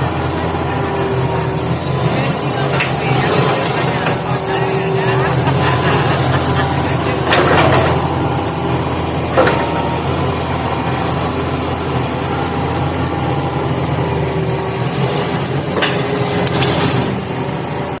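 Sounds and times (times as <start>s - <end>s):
engine humming steadily: 0.0s - 18.0s.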